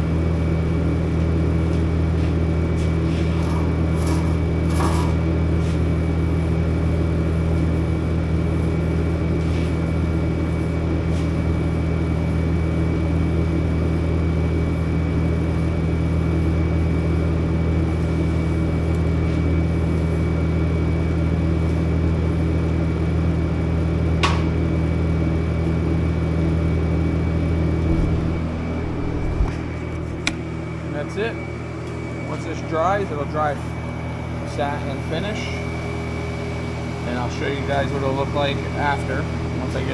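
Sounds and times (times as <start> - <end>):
motor humming: 0.0 - 38.8.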